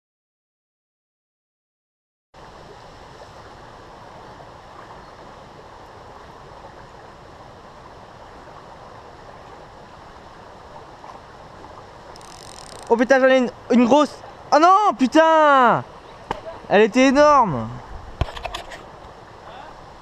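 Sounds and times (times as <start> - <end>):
stream water flowing: 2.4 - 20.0.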